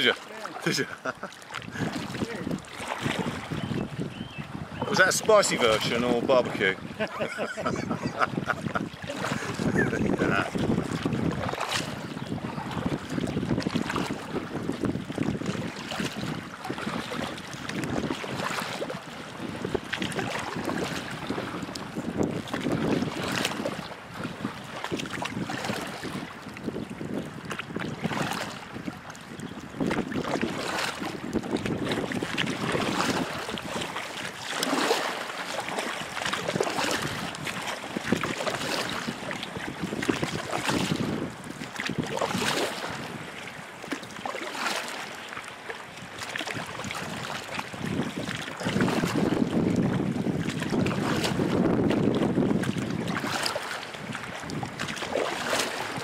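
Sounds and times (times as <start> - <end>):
paddle splashing in water: 0.0 - 56.0
wind buffeting microphone: 0.7 - 35.1, 35.7 - 43.7, 46.0 - 56.0.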